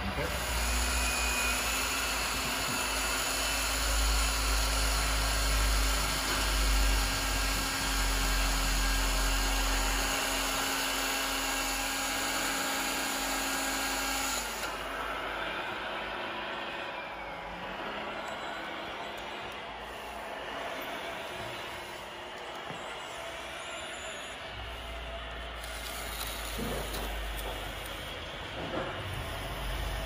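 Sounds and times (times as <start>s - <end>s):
small electric motor whining: 0.1s - 30.0s.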